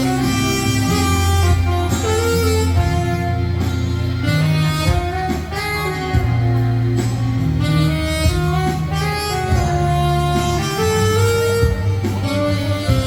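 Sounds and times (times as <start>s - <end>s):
backing track with bass line: 0.0s - 13.0s
saxophone slow melody: 0.0s - 13.0s.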